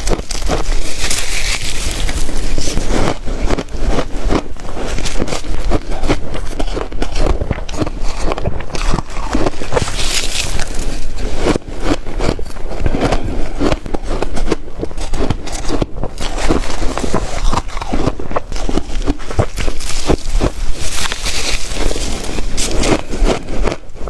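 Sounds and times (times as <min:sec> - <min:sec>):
chewing ice crunches: 0:00.0 - 0:24.0.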